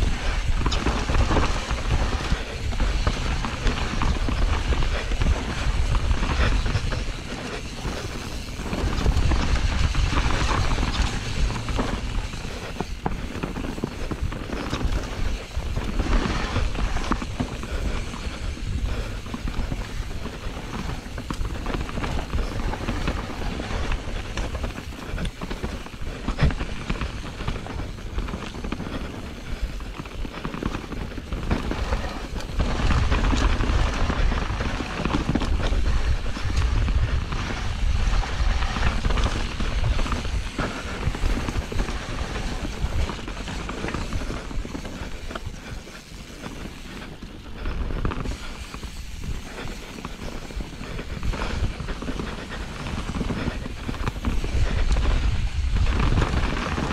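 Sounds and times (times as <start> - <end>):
bike knocks and rattles: 0.0 - 46.1
tyres rumbling over dirt: 0.0 - 56.9.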